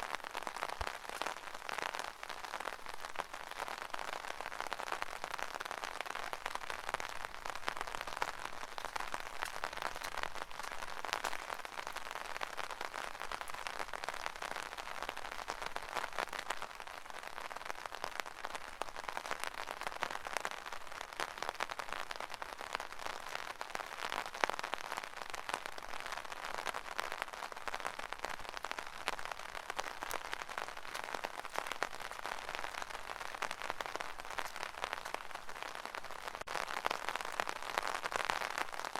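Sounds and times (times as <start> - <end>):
rain pattering on an umbrella: 0.0 - 38.9.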